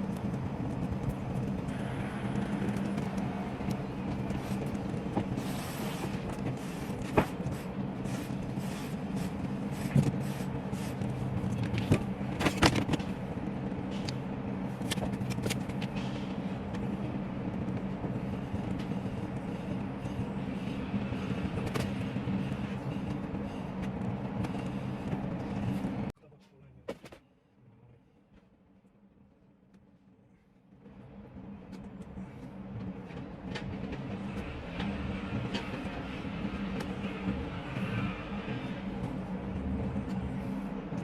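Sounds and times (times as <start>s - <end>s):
low engine-like hum: 0.0s - 26.8s, 27.5s - 41.0s.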